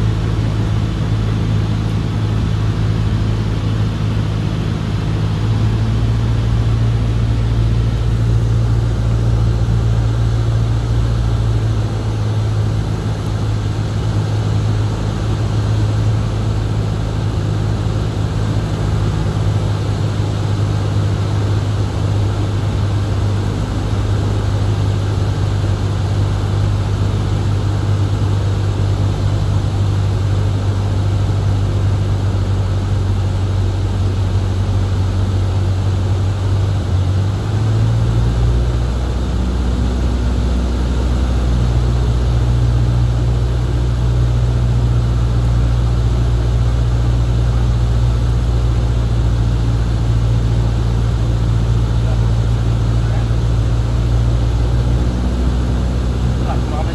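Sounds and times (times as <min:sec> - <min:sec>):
light aircraft engine droning: 0:00.0 - 0:56.9.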